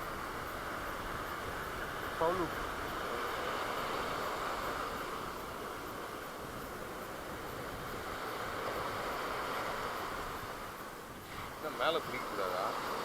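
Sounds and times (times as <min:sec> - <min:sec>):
sea surf: 0:00.0 - 0:13.0
wind along the shore: 0:00.0 - 0:13.0.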